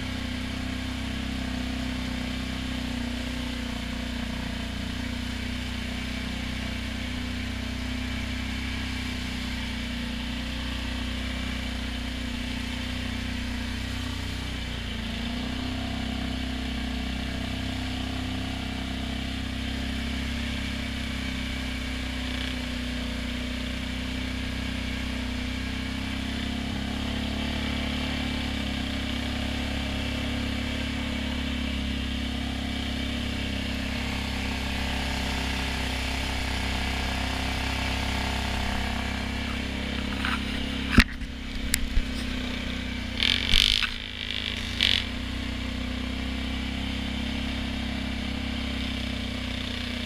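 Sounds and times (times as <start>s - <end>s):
quad engine running: 0.0s - 50.0s
wheels churning through muddy water: 0.0s - 50.0s.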